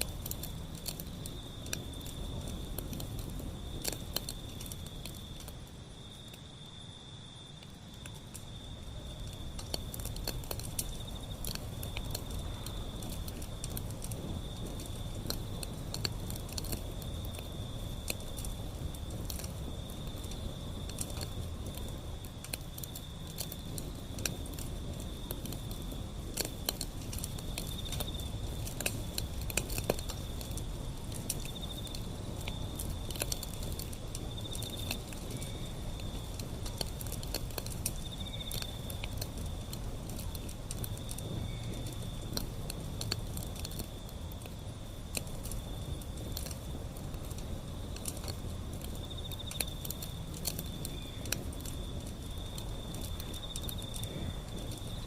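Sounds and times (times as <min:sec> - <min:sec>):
fire crackles and pops: 0:00.0 - 0:55.0
low rumble of flame: 0:00.0 - 0:55.0.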